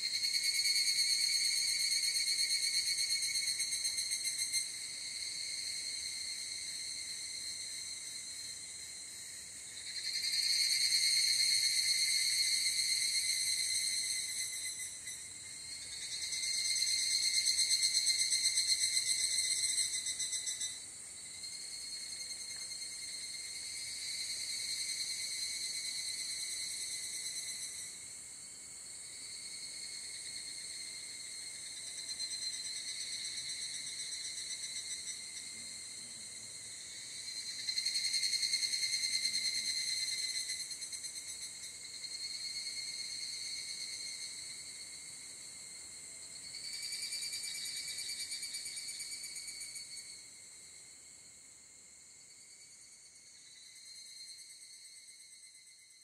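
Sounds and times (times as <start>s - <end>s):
cicadas trilling: 0.0s - 56.0s.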